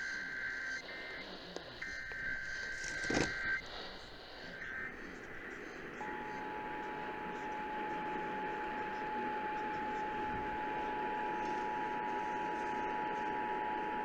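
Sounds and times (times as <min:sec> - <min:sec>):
radio static: 0:00.2 - 0:12.7.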